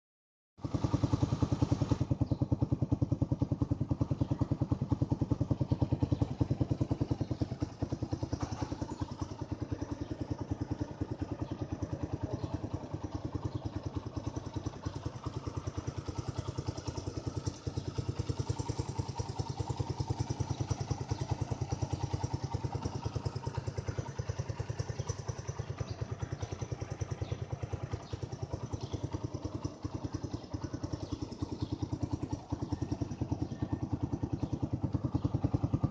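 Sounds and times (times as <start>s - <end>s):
motorcycle engine idling: 0.6s - 35.9s.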